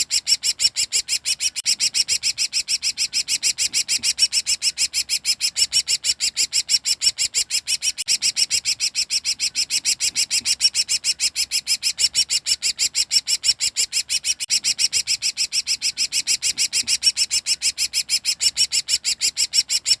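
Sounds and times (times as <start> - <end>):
songbird rapid high chirps: 0.0 - 20.0.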